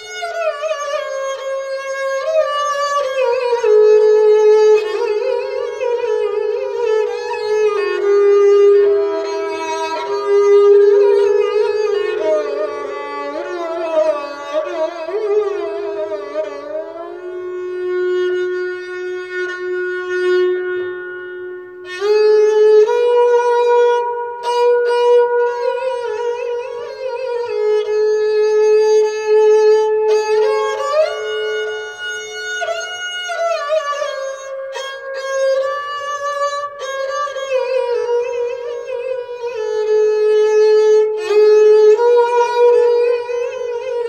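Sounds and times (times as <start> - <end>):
bowed string instrument melody: 0.0 - 44.0.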